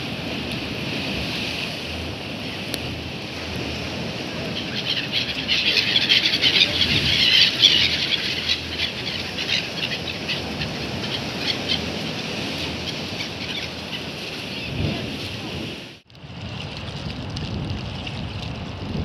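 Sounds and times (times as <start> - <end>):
gulls calling: 0.0 - 16.0
surf rushing: 0.0 - 19.0
wind: 0.0 - 19.0.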